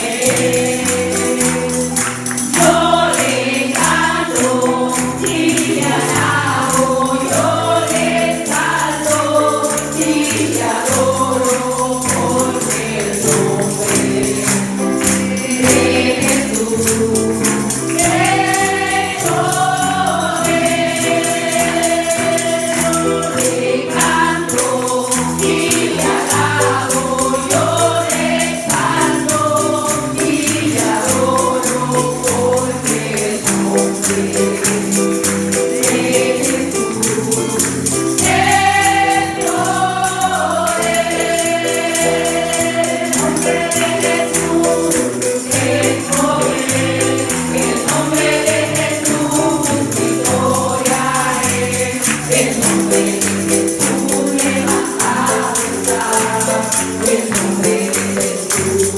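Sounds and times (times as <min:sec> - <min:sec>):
group singing a gospel hymn: 0:00.0 - 0:58.9
tambourine rhythm: 0:00.0 - 0:58.9.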